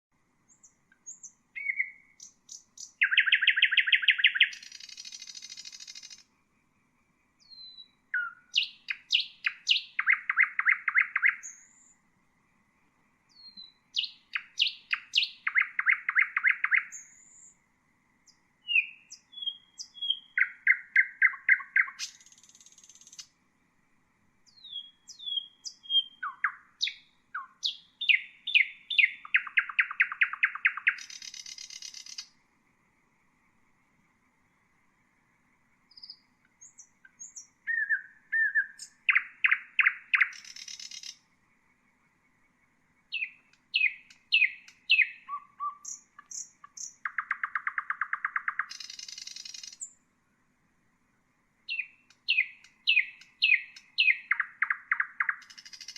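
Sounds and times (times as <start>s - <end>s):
nightingale singing: 0.4s - 6.4s, 7.3s - 12.1s, 13.2s - 17.6s, 18.2s - 23.4s, 24.4s - 32.4s, 35.0s - 50.1s, 51.6s - 55.9s.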